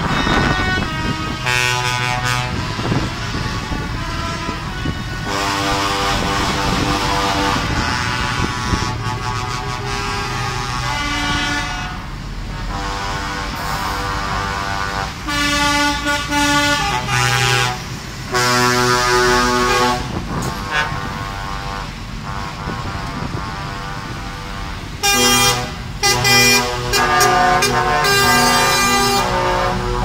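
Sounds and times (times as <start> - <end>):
truck air horns blasting: 0.0 - 30.0
truck engines rumbling: 0.0 - 30.0.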